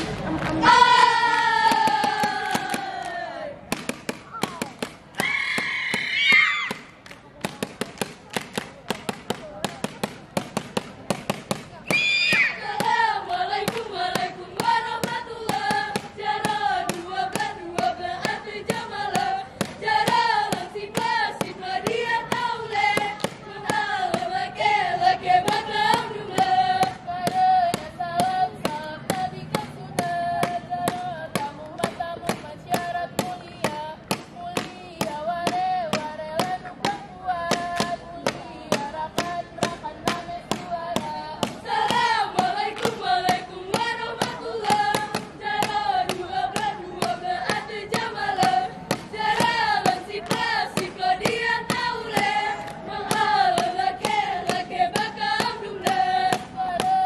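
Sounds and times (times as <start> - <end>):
group singing in two parts: 0.0 - 3.6, 12.6 - 33.4, 35.0 - 57.0
steady handclaps: 0.0 - 5.2, 6.7 - 11.8, 12.6 - 57.0.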